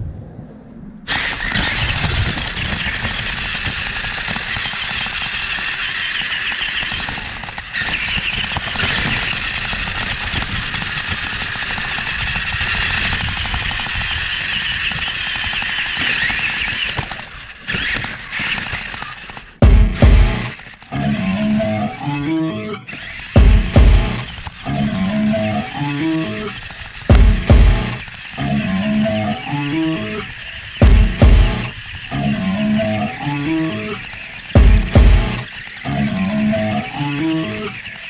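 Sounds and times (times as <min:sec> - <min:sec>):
toy car motor and gear whine: 0:01.1 - 0:38.0.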